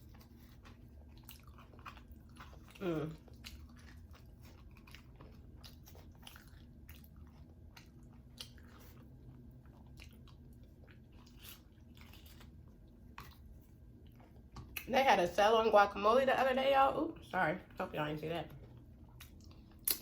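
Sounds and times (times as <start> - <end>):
person chewing food: 0.0 - 14.9, 18.6 - 20.0.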